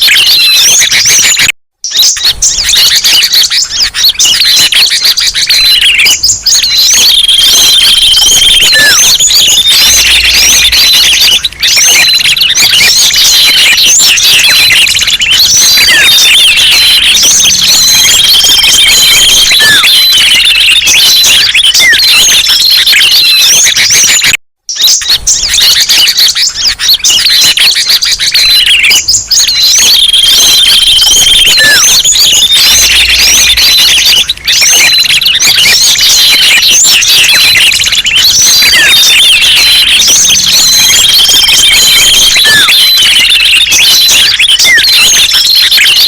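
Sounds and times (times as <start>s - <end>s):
songbirds chirping and whistling: 0.0s - 46.0s.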